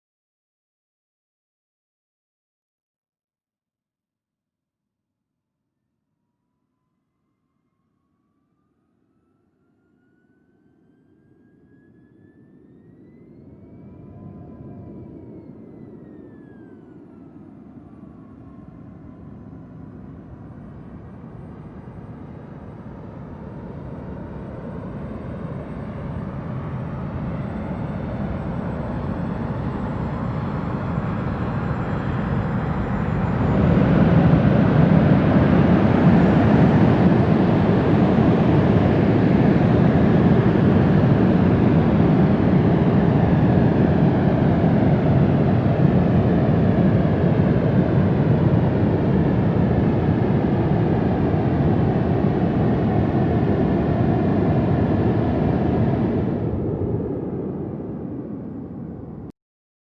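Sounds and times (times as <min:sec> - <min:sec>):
faint high whine: 0:06.4 - 0:59.3
jet airliner engines: 0:09.0 - 0:59.3.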